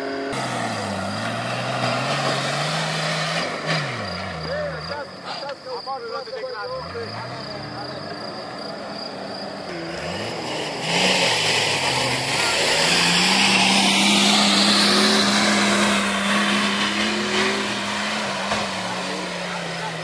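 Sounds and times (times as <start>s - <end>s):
engine revving hard: 0.0s - 5.0s, 8.7s - 20.0s.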